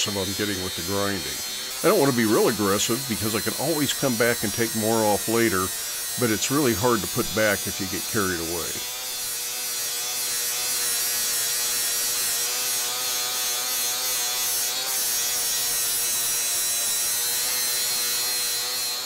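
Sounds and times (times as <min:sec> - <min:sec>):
angle grinder grinding steel: 0:00.0 - 0:19.0.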